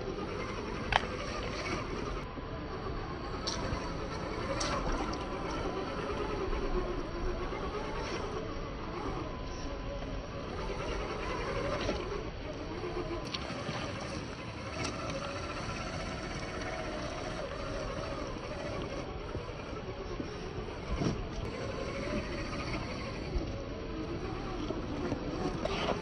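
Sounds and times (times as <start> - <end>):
toy car electric motor whine: 0.0 - 26.0.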